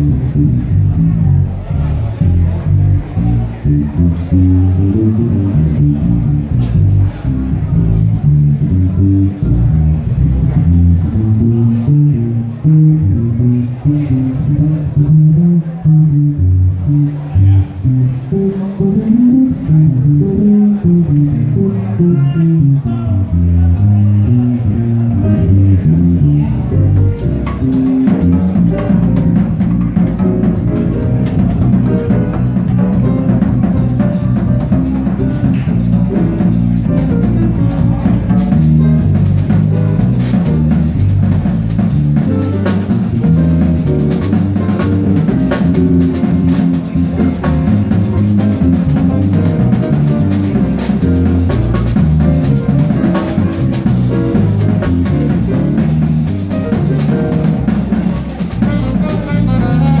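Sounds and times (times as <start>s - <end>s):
drum kit: 0.0s - 22.8s, 23.4s - 60.0s
bass line: 0.0s - 60.0s
jazz group playing: 0.0s - 60.0s.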